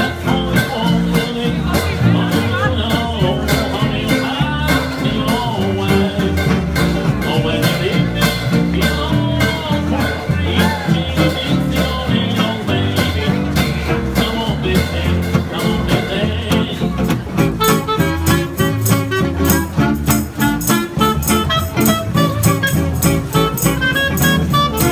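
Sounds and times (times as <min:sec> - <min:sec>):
acoustic guitar strumming: 0:00.0 - 0:24.9
walking upright bass: 0:00.0 - 0:24.9.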